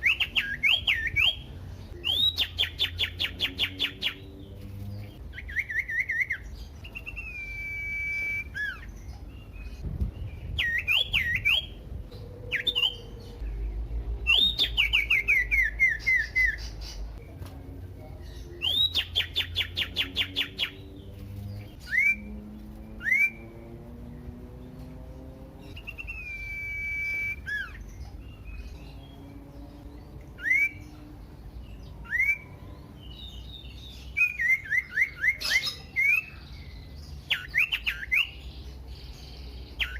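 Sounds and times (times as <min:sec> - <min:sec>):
bird singing whistled notes: 0:00.0 - 0:17.3, 0:18.2 - 0:23.8, 0:25.6 - 0:39.9.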